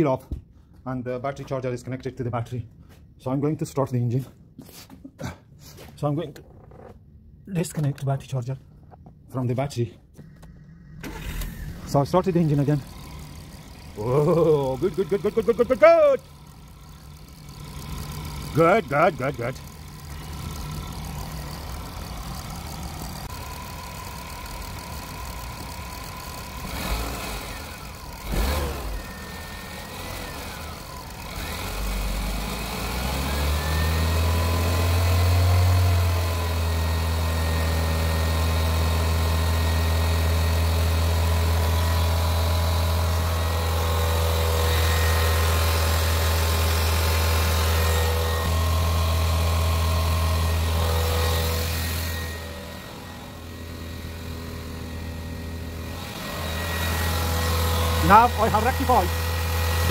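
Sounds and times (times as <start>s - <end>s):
car engine idling and revving: 10.2s - 59.9s.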